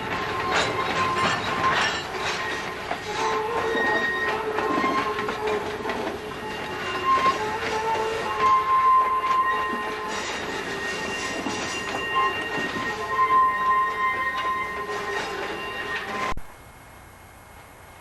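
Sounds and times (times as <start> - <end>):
clatter of train cars: 0.0 - 16.4
train wheels squealing: 0.0 - 16.4.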